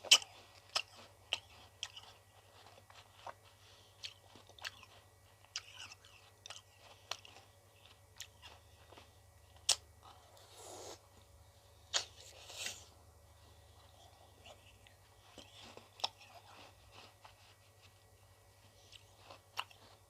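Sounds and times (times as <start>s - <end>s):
chewing ice cream with crunching: 0.0s - 20.0s
soft noisy sound: 0.0s - 20.0s.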